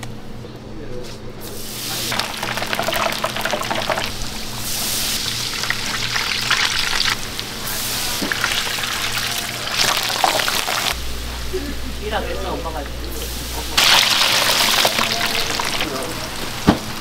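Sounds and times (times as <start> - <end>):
hot oil sizzling in deep-fryer: 1.4 - 11.0, 12.0 - 17.0.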